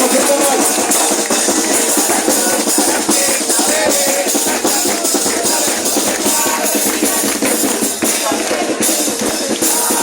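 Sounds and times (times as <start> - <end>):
drums and cymbals rhythm: 0.0 - 10.0
voices: 0.0 - 10.0.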